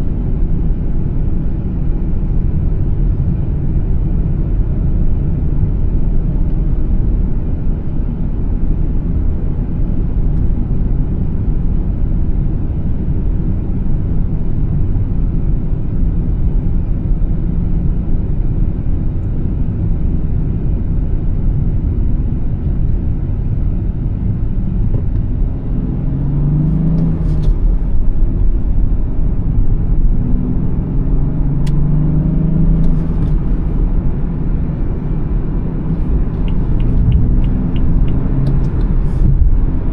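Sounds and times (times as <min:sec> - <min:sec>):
car engine: 0:00.0 - 0:39.9
low road rumble: 0:00.0 - 0:39.9.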